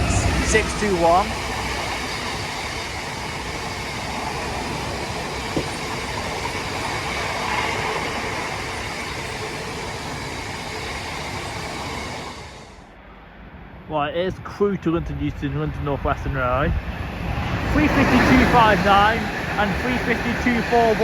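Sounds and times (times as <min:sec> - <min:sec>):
train wheels rumbling on rails: 0:00.0 - 0:12.9, 0:14.0 - 0:21.0.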